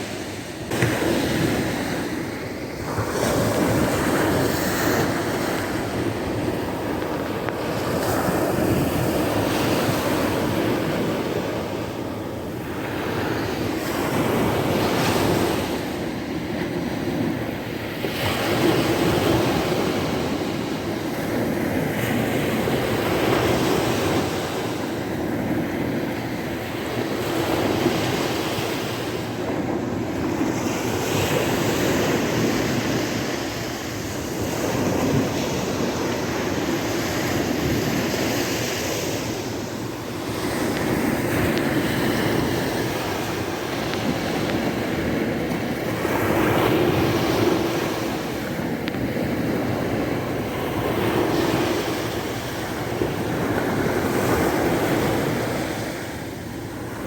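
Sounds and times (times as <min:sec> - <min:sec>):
sea waves breaking on shore: 0:00.0 - 0:57.0
wind on microphone: 0:00.0 - 0:57.0.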